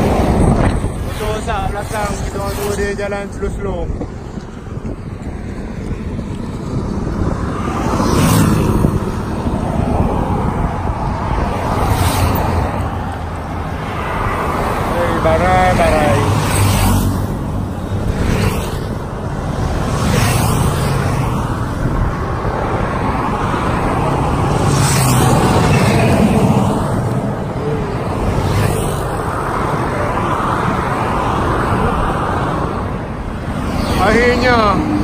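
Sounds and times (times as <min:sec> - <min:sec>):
road noise rush: 0:00.0 - 0:35.0
vehicles sweeping past: 0:00.0 - 0:35.0.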